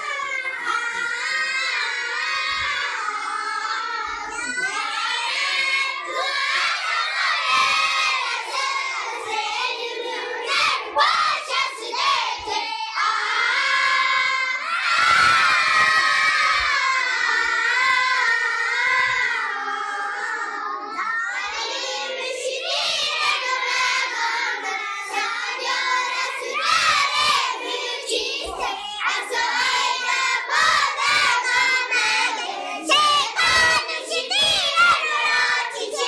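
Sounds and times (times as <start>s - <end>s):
children singing in unison: 0.0s - 36.0s.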